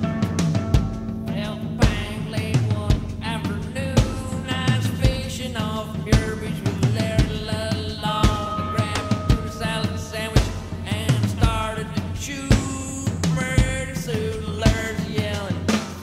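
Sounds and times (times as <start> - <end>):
steady drum beat: 0.0 - 16.0
person singing: 1.2 - 16.0.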